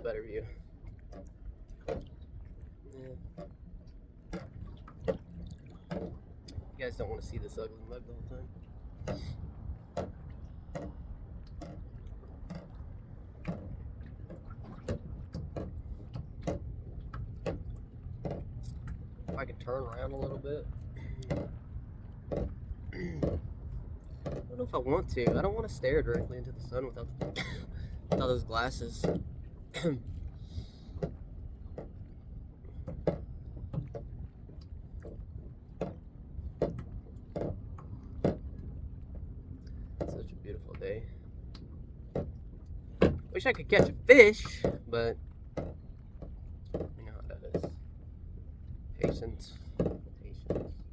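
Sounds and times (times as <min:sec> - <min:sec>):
steady low rumble: 0:00.0 - 0:50.9
water slapping a kayak hull: 0:00.0 - 0:50.9.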